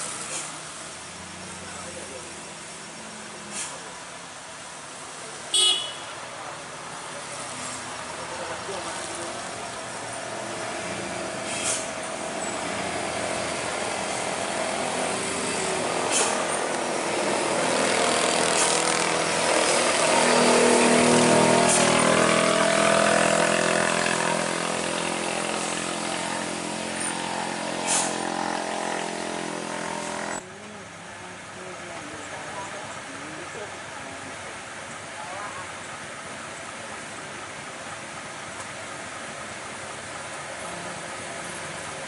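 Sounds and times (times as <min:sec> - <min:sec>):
truck diesel engine under load: 0:00.0 - 0:42.0.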